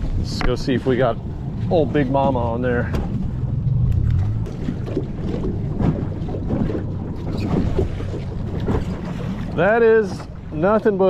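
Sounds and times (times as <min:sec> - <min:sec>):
wind on microphone: 0:00.0 - 0:09.6
low steady hum: 0:00.0 - 0:11.0
water lapping against boat hull: 0:00.0 - 0:11.0.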